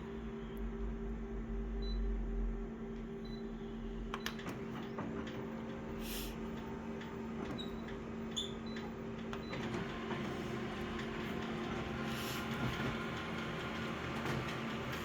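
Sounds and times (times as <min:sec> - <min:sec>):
photocopier mechanical whirr: 0:02.6 - 0:15.0
photocopier motor hum: 0:02.6 - 0:15.0.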